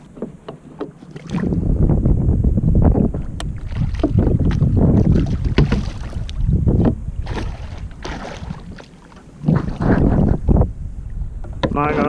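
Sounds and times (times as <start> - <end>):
water sloshing against kayak hull: 0.0 - 12.0
wind buffeting microphone: 1.2 - 12.0.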